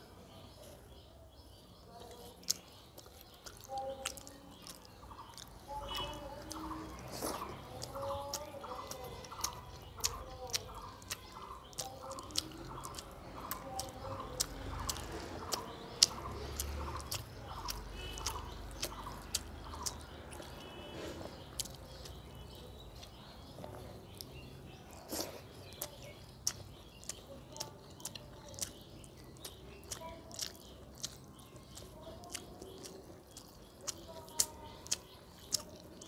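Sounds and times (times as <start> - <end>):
person chewing food: 1.8 - 36.0
mouth clicks and smacks: 2.1 - 36.0.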